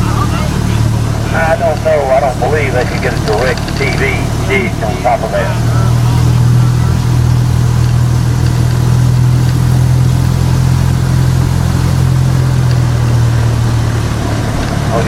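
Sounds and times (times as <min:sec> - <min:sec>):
ride train engine droning: 0:00.0 - 0:15.0.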